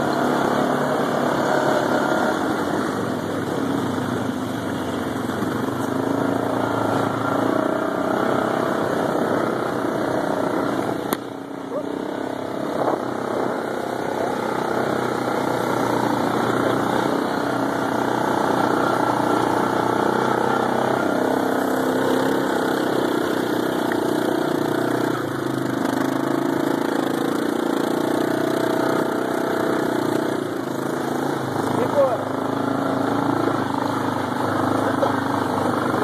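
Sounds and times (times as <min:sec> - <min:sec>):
quad bike engine running: 0:00.0 - 0:36.0.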